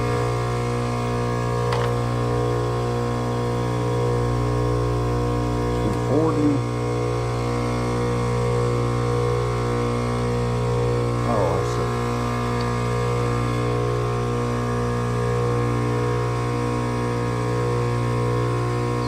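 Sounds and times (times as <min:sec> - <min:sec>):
condenser unit electrical hum: 0:00.0 - 0:19.0.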